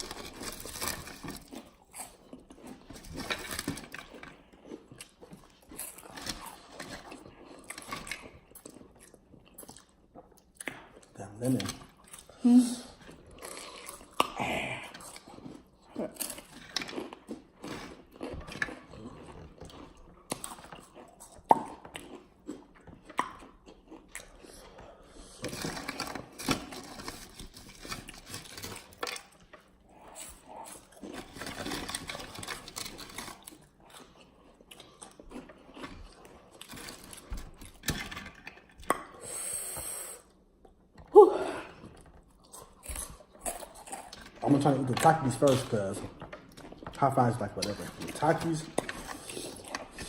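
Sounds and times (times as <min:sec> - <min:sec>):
chips crunching while chewed: 0:00.0 - 0:39.3, 0:41.8 - 0:50.0.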